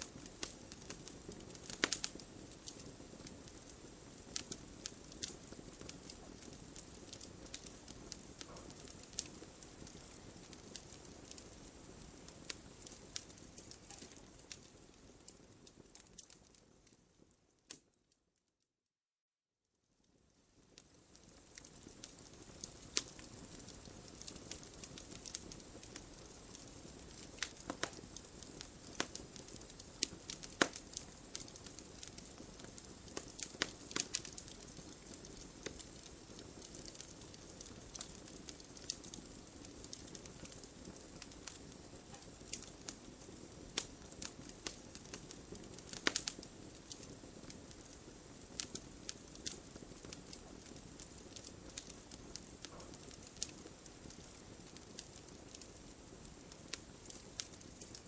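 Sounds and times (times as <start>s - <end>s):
wood fire crackling: 0.0s - 18.1s, 20.0s - 58.0s.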